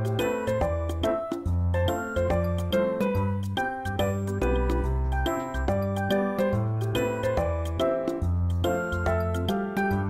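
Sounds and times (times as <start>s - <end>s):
background music melody over bass: 0.0s - 10.0s.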